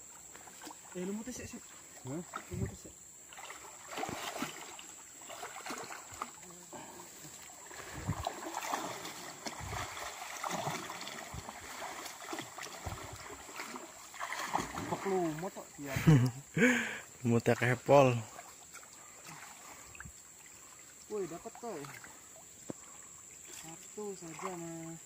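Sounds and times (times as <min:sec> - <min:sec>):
water splashing from wading: 0:00.1 - 0:25.0.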